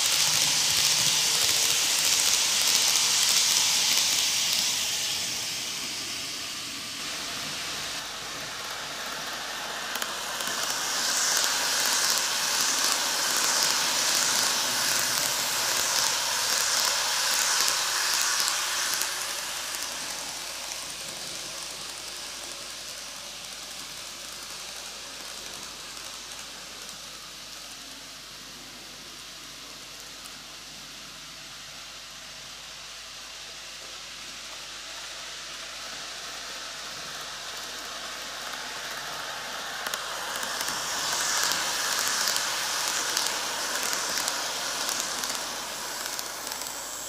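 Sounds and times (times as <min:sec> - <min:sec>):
model train rattling on track: 0:00.0 - 0:31.1, 0:33.4 - 0:47.0.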